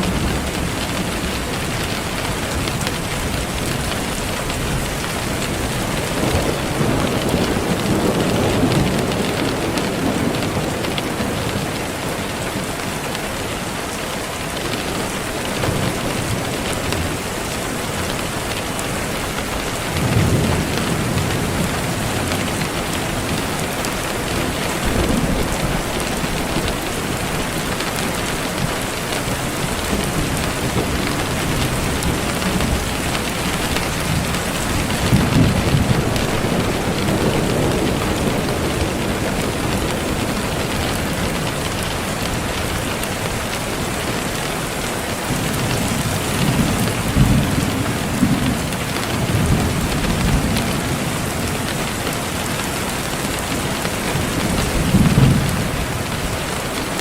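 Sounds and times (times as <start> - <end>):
heavy rain hissing: 0.0 - 57.0
thunder rumbling: 0.0 - 57.0.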